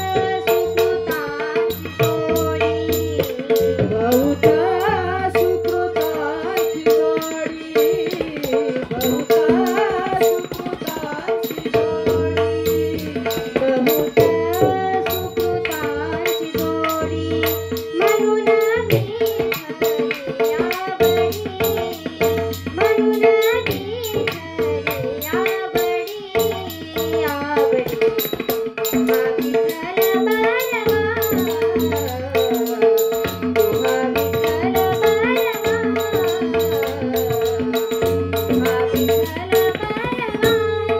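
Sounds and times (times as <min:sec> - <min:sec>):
girl singing devotional song: 0:00.0 - 0:40.9
tabla playing fast strokes: 0:00.0 - 0:40.9.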